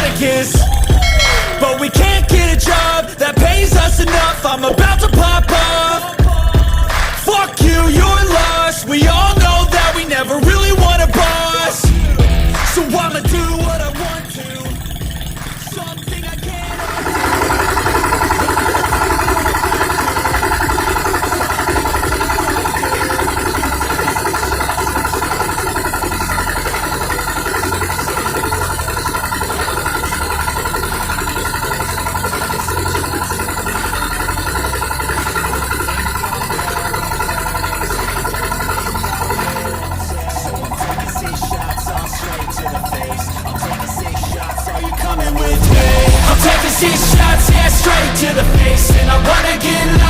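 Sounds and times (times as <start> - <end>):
rice milling machine droning: 0.0 - 50.0.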